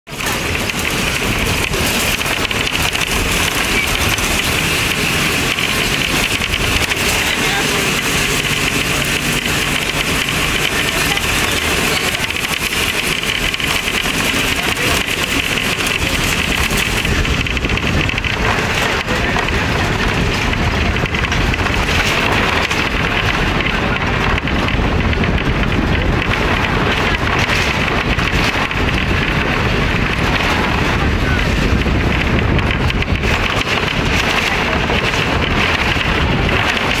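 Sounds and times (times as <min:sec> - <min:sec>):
faint crackles and clicks: 0:00.1 - 0:37.0
moving vehicle rushing noise: 0:00.1 - 0:37.0
wind buffeting microphone: 0:00.1 - 0:37.0.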